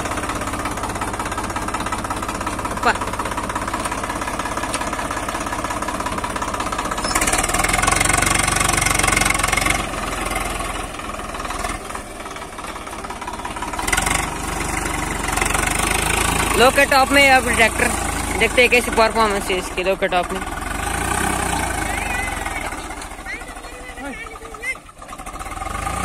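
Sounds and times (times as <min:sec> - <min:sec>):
tractor diesel engine revving: 0:00.0 - 0:26.0.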